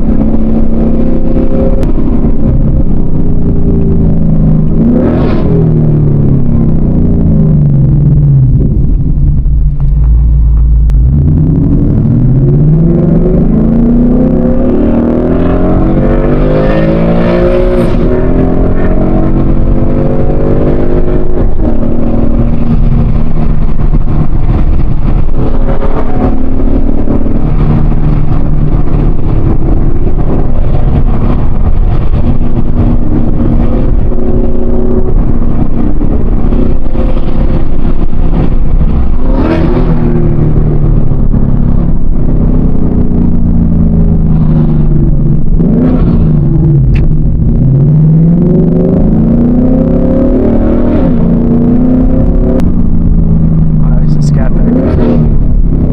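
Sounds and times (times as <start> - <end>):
car engine accelerating: 0.0 - 55.9.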